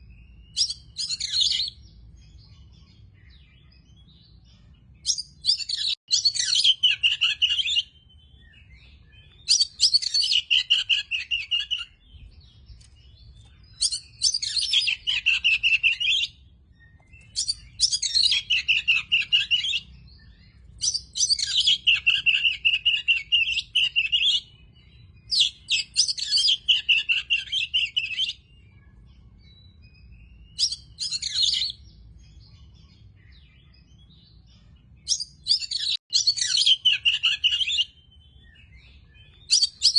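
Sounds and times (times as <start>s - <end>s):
bird singing warbled trills: 0.0s - 39.9s.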